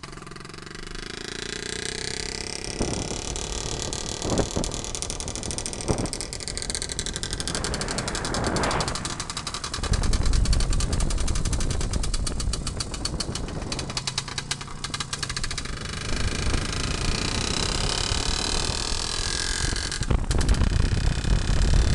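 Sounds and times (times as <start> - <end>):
motorcycle engine exhaust beat: 0.0 - 21.9
road and wind noise: 0.0 - 21.9.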